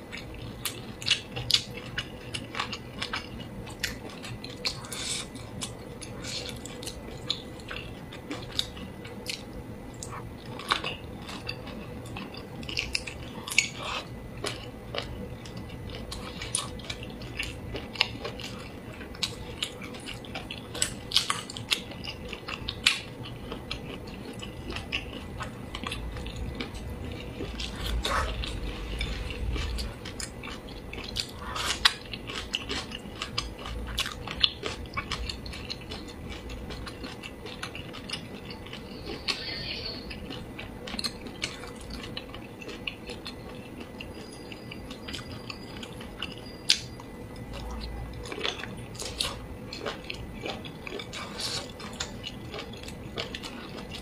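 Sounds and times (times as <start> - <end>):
close chewing: 0.0 - 54.0.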